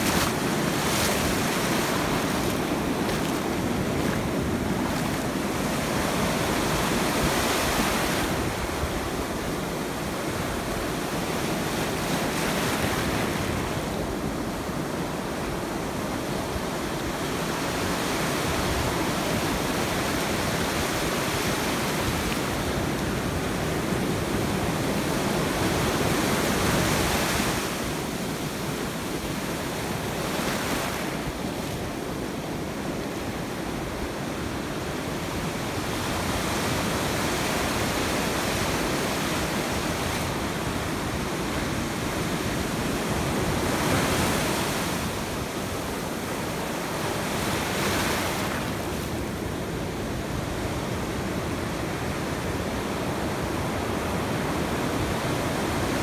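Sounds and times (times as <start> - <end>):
ocean surf breaking: 0.0 - 49.4.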